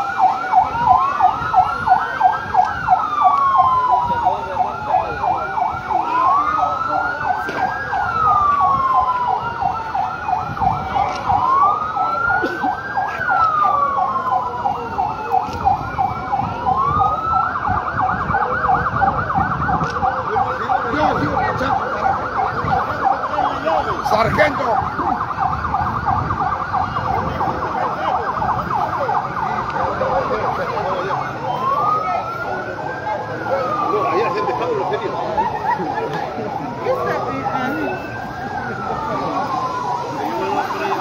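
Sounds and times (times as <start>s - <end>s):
siren wailing: 0.0s - 41.0s
siren yelping: 0.0s - 41.0s.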